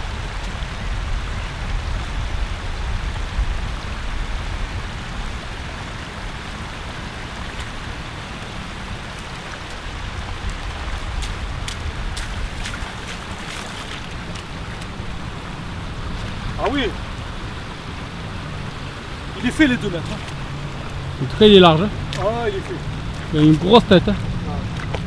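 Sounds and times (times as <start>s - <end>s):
river water rushing over stones: 0.0s - 25.0s
wind rumbling on microphone: 0.0s - 25.0s.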